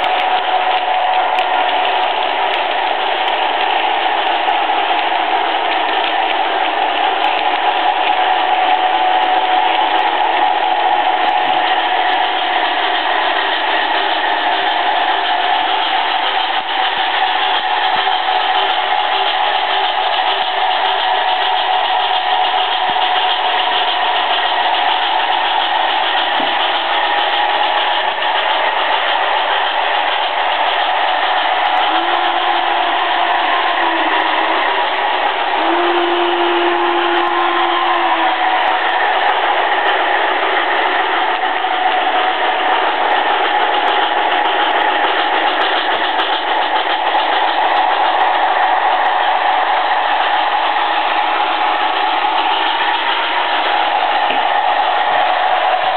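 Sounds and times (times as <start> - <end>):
model train motor whine: 0.0 - 55.9
wheels rumbling on rails: 0.0 - 55.9.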